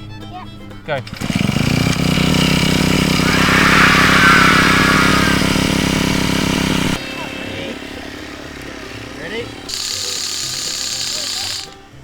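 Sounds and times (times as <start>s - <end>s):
petrol engine pull-started: 0.8s - 12.0s.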